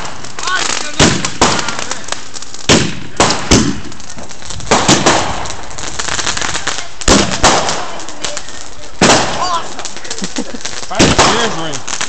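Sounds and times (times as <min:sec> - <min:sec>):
firecracker bangs echoing: 0:00.0 - 0:12.0.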